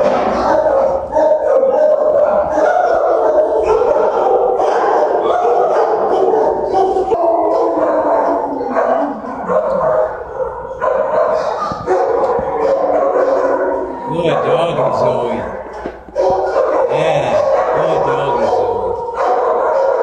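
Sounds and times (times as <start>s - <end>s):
many dogs barking and howling: 0.0s - 20.0s.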